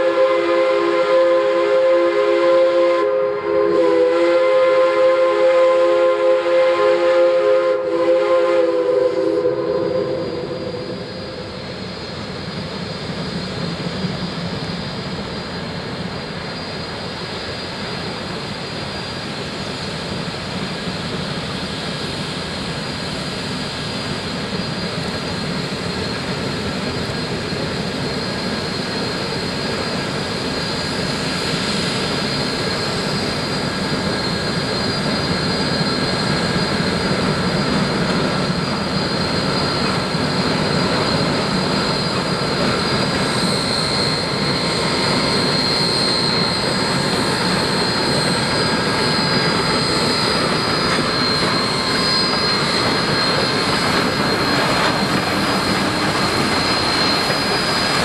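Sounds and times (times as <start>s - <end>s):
steam locomotives exhaust roar: 0.0s - 58.0s.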